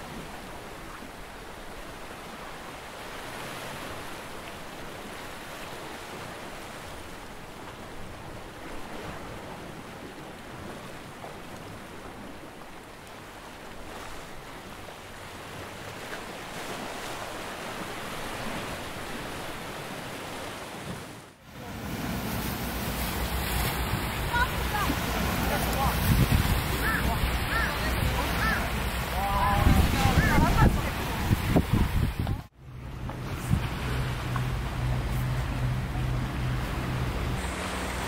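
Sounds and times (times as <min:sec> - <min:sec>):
sea waves washing on shore: 0:00.0 - 0:38.0.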